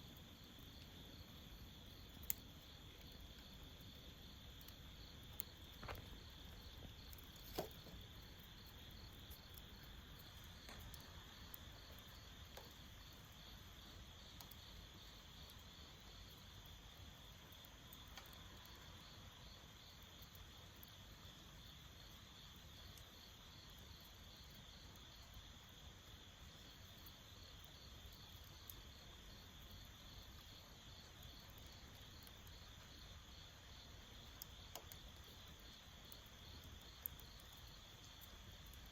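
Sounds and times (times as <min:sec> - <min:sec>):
crickets chirping: 0:00.0 - 0:38.9
wood fire popping: 0:00.0 - 0:38.9.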